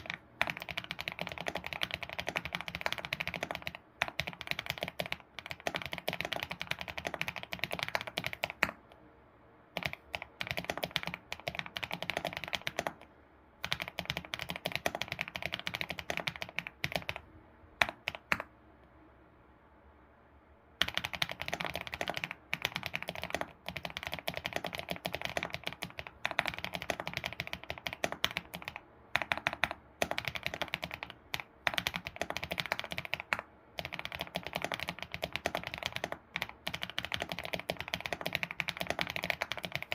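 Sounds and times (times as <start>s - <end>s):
keyboard typing: 0.0s - 9.0s, 9.7s - 18.6s, 20.8s - 39.9s.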